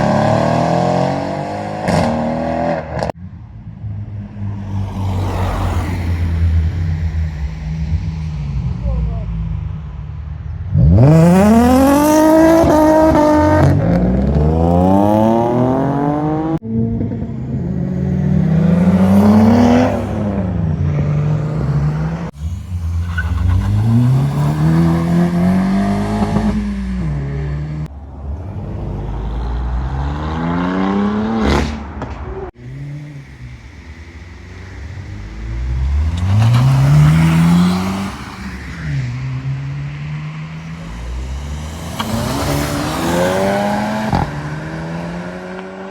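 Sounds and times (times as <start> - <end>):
car engines revving hard: 0.0 - 3.2, 3.9 - 45.9.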